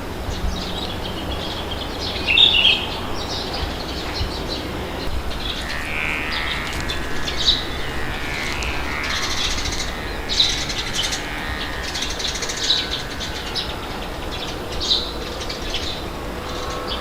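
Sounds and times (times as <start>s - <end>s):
low rumble of wind: 0.0s - 17.0s
small birds chirping: 0.0s - 17.0s.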